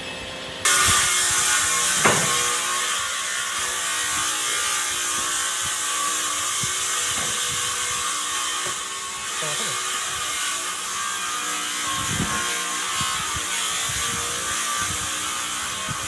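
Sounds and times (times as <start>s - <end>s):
power tool running with hissing: 0.0s - 16.0s.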